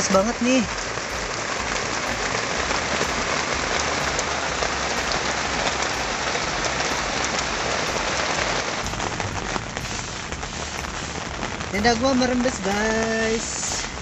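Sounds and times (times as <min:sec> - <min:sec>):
heavy rain falling: 0:00.0 - 0:14.0
raindrops ticking: 0:00.0 - 0:14.0.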